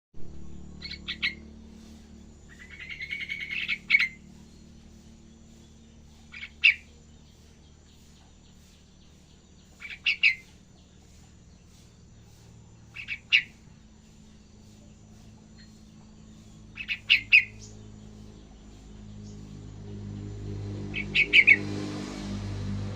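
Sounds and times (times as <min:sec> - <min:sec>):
bird chirping song: 0:00.2 - 0:22.9.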